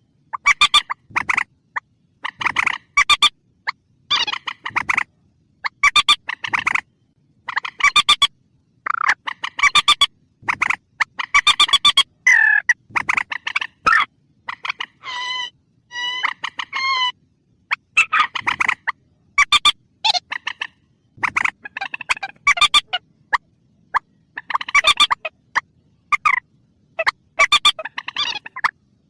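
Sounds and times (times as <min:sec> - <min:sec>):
recorded bird calls clucking: 0:00.0 - 0:29.0.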